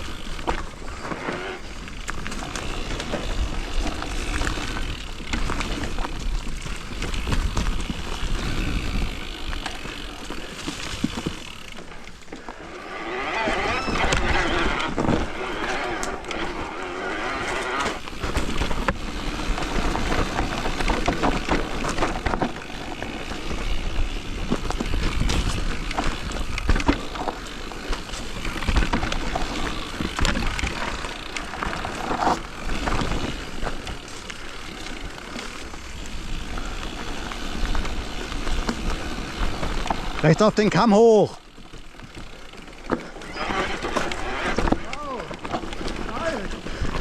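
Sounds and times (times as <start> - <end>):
tyres rolling on dirt trail: 0.0 - 47.0.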